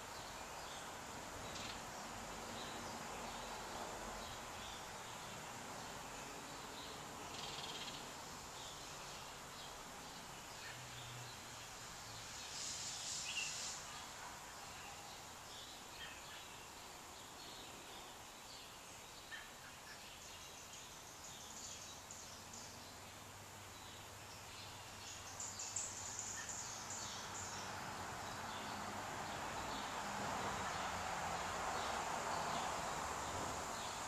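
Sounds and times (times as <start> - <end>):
faint birds chirping: 0.0 - 34.0
steady hiss: 0.0 - 34.0.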